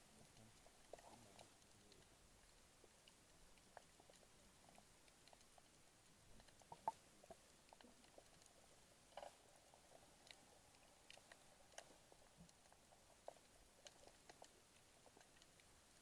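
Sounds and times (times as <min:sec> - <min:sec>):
low underwater hiss: 0:00.0 - 0:16.0
short clicks and crackles: 0:00.2 - 0:15.8.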